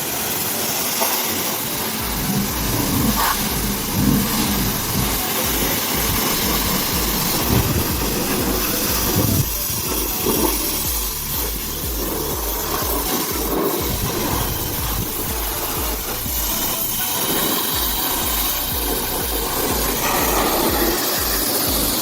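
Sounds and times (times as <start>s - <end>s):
high-pressure water spray hissing: 0.0s - 22.0s
low pulsing: 1.6s - 22.0s.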